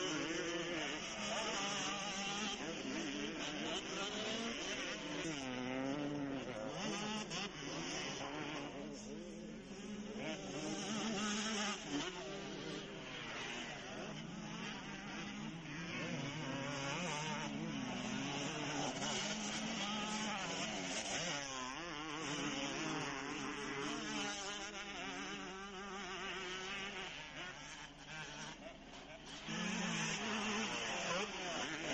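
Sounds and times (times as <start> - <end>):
motocross bike engines revving: 0.0 - 31.9.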